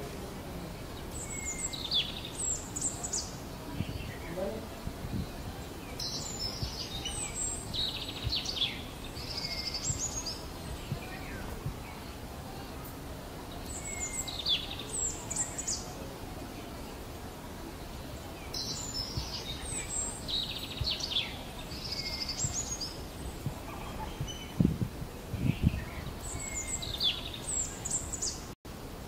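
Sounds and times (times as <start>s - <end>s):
birds chirping: 0.0s - 28.6s
background hiss: 0.0s - 29.0s.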